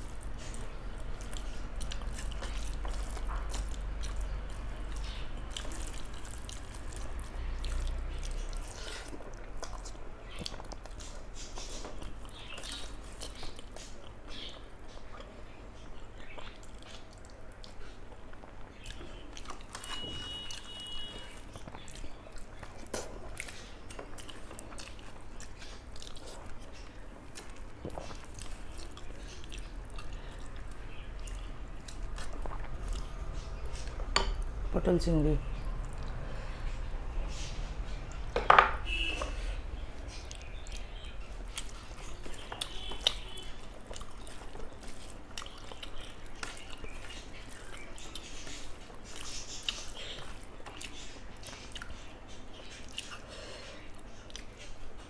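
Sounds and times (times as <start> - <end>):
person chewing food: 0.0 - 34.6, 35.5 - 38.4, 39.1 - 55.0.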